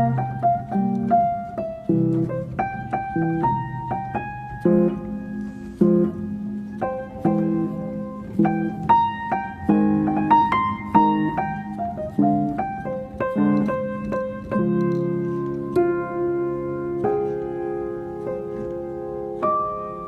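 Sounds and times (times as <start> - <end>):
background piano music: 0.0 - 20.0.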